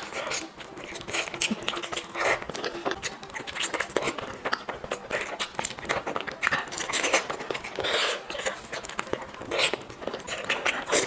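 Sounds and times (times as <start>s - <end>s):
person biting and chewing food: 0.0s - 11.0s.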